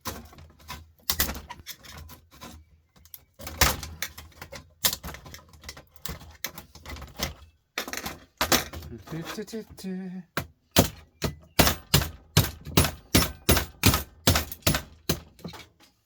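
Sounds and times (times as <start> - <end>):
clatter of parts and tools: 0.0 - 16.0.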